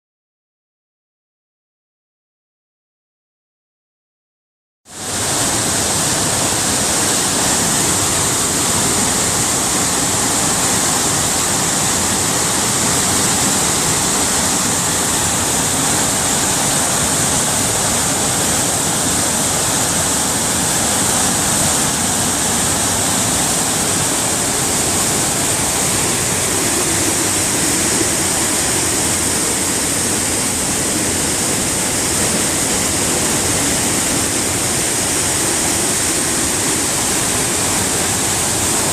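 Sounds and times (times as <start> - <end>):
river rushing: 4.9 - 38.9.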